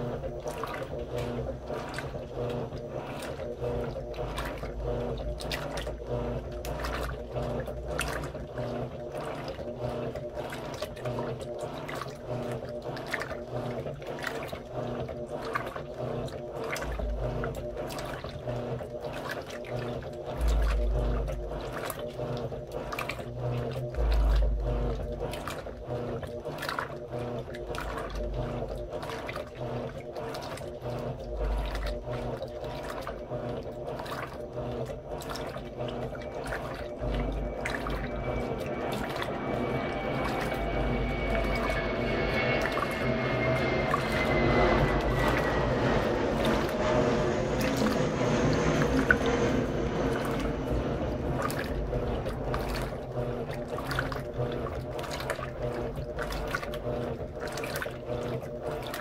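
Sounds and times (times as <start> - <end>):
washing machine churning water: 0.0 - 59.0
washing machine motor hum: 0.0 - 59.0.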